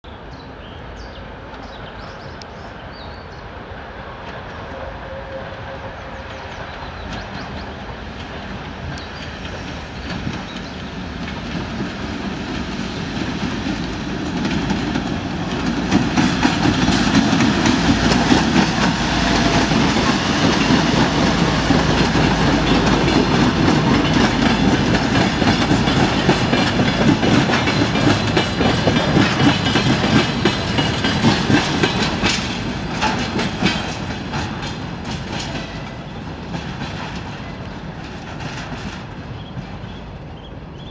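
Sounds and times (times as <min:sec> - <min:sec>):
diesel locomotive passing: 0:00.1 - 0:40.9
rumble of rolling flatcars: 0:06.0 - 0:40.9
wagon wheels clacking over rail joints: 0:06.9 - 0:40.0.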